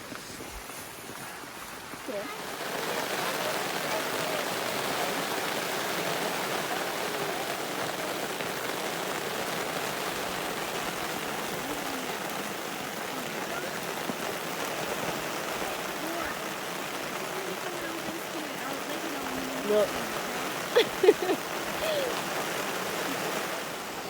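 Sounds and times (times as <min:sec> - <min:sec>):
steady rain falling: 0:00.0 - 0:24.0
faint voices: 0:01.0 - 0:24.0.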